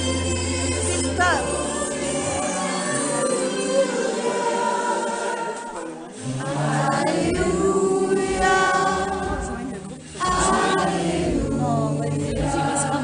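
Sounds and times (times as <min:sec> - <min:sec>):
mixed choir singing: 0:00.0 - 0:13.0.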